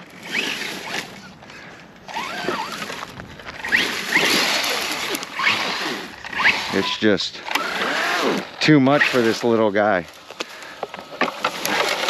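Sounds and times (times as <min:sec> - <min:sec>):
rc truck motor whine revving: 0:00.0 - 0:12.0
tyres churning through dry weeds: 0:00.0 - 0:12.0.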